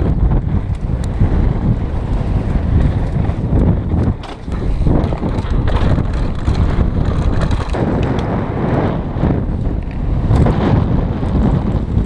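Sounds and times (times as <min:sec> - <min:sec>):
bike rattling and knocking: 0:00.0 - 0:12.0
wind buffeting microphone: 0:00.0 - 0:12.0.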